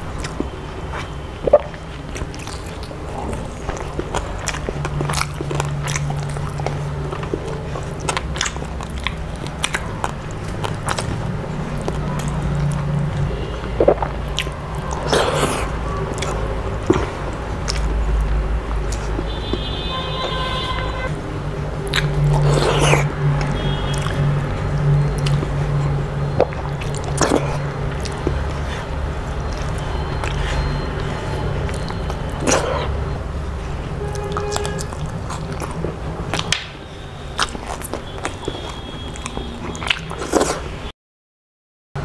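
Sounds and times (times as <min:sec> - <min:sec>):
chewing and lip-smacking: 0:00.0 - 0:40.9.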